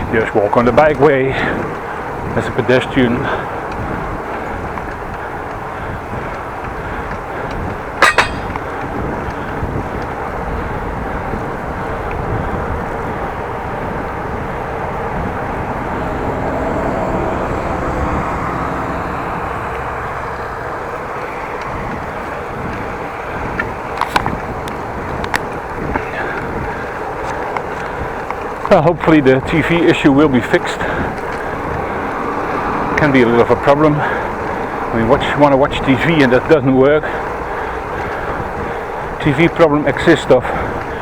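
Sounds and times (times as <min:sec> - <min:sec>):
wind noise while cycling: 0:00.0 - 0:41.0
bicycle tyre noise: 0:00.7 - 0:16.0, 0:19.2 - 0:41.0.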